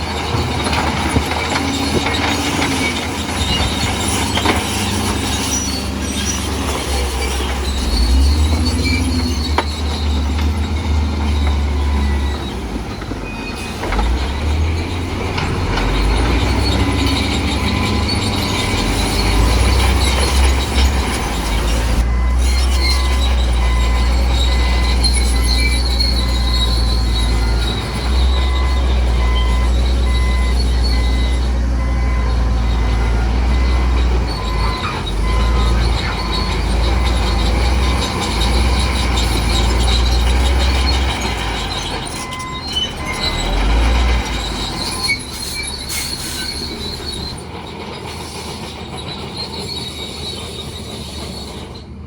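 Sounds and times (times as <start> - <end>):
bulldozer engine rumble: 0.0 - 52.0
steel tracks squealing and clanking: 0.0 - 52.0.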